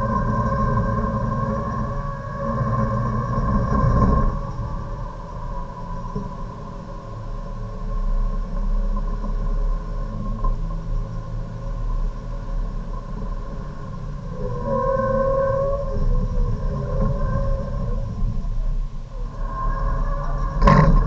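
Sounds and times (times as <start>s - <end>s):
road and wind noise: 0.0s - 21.0s.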